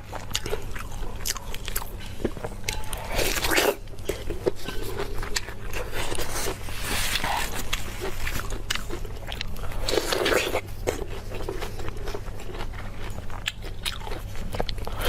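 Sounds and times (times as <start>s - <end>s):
person chewing and crunching food: 0.0s - 15.0s.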